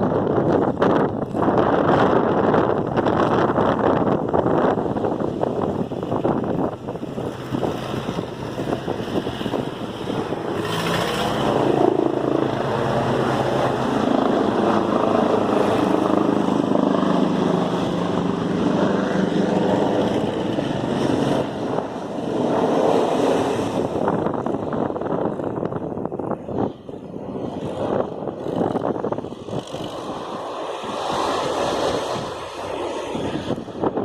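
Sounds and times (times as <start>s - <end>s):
wind buffeting microphone: 0.0s - 34.0s
engine running: 0.1s - 34.0s.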